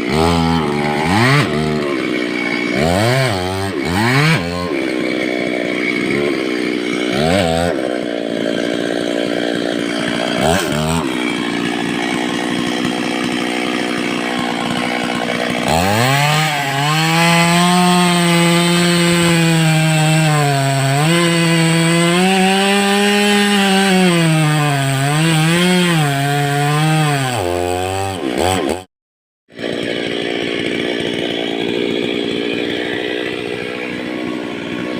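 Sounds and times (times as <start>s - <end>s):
chainsaw revving and cutting wood: 0.0s - 28.9s, 29.5s - 34.9s.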